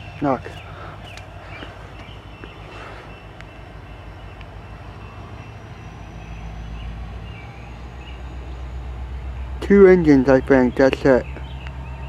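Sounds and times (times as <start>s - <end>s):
diesel locomotives idling: 0.0s - 12.0s.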